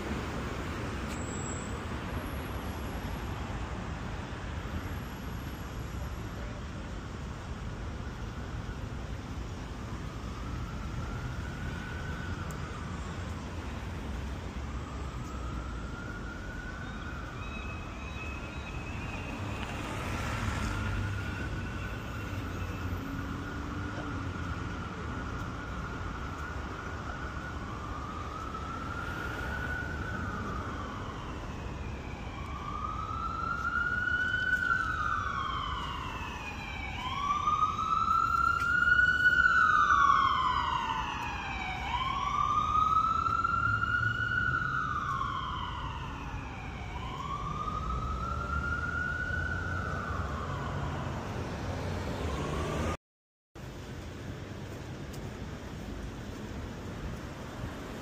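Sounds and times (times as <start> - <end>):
emergency siren wailing: 0.0 - 53.0
low traffic rumble: 0.0 - 53.0, 53.6 - 58.0.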